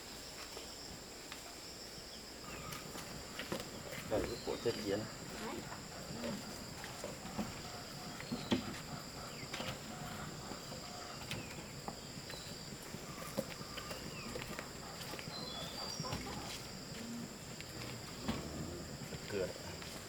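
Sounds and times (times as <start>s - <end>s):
insects singing: 0.0s - 20.0s.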